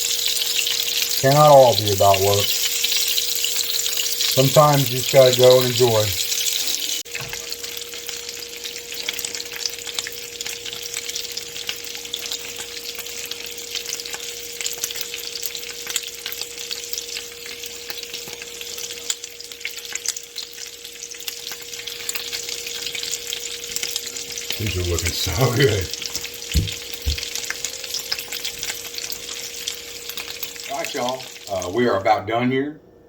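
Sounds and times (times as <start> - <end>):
meat sizzling as it fries: 0.0 - 32.1.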